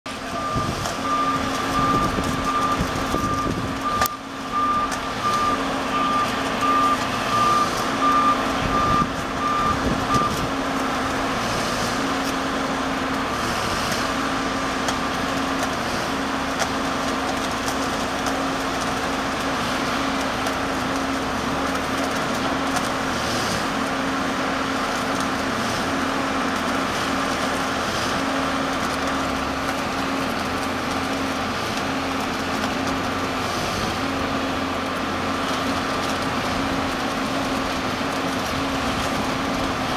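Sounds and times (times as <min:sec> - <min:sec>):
welding machinery running: 0:00.1 - 0:39.9.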